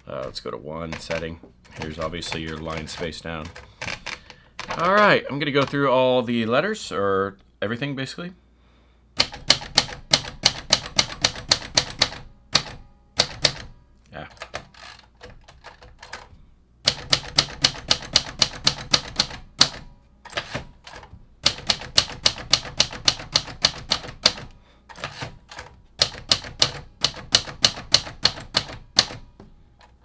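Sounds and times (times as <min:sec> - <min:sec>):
manual typewriter typing: 0:00.0 - 0:06.4, 0:09.2 - 0:30.0.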